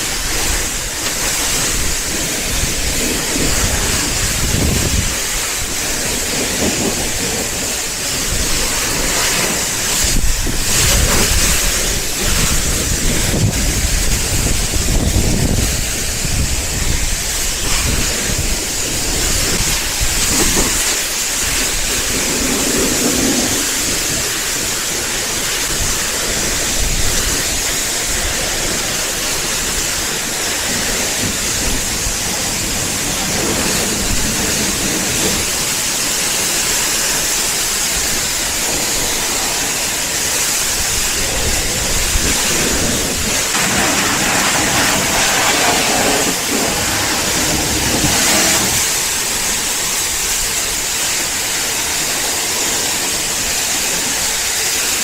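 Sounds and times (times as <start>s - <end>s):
water spraying: 0.0s - 55.0s.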